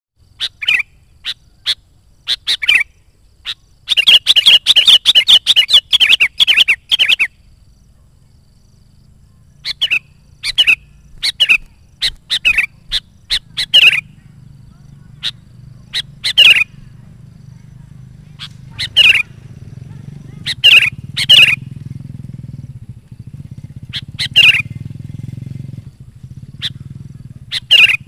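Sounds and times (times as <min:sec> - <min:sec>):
bulbul singing: 0:00.2 - 0:28.0.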